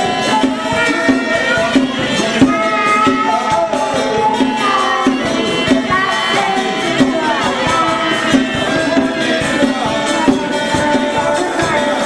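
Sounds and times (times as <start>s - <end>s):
high sliding melody: 0.0s - 12.0s
rattling percussion: 0.0s - 12.0s
steady drumming: 0.0s - 12.0s.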